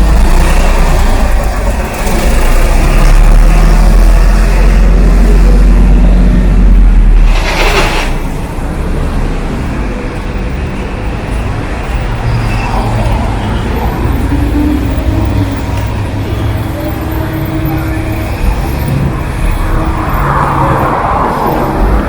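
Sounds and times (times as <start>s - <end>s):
steady traffic noise: 0.0s - 22.0s
vehicle engine rumbling close by: 0.0s - 22.0s.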